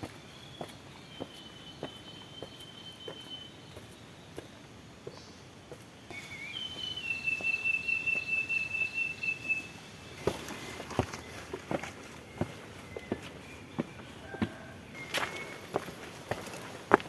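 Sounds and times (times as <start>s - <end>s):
footsteps on a trail: 0.0s - 8.9s, 10.1s - 17.0s.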